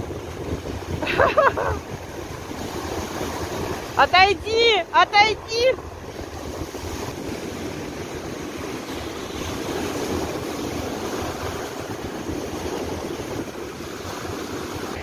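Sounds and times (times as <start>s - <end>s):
waves breaking on shore: 0.0s - 15.0s
wind rushing over microphone: 0.0s - 15.0s.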